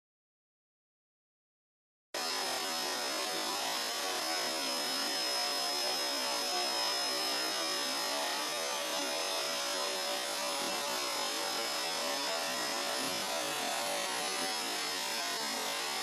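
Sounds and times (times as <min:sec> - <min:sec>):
vacuum cleaner running: 0:02.2 - 0:16.0.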